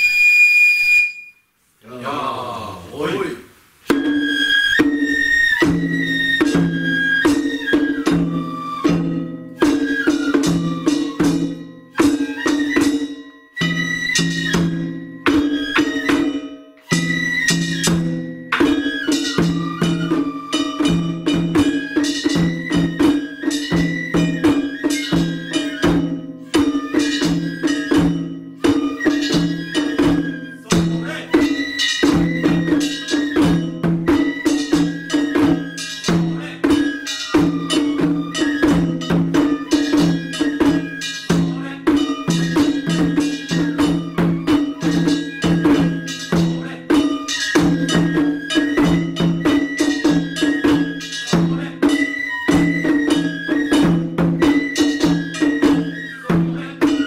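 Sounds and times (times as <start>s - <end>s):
flute melody: 0.0s - 1.5s, 3.9s - 57.0s
festival drums: 2.0s - 57.0s.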